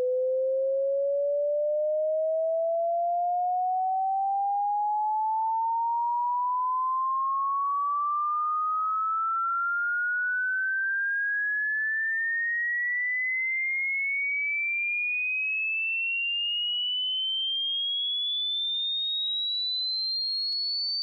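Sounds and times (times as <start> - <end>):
rising sine tone: 0.0 - 14.1, 16.2 - 21.0.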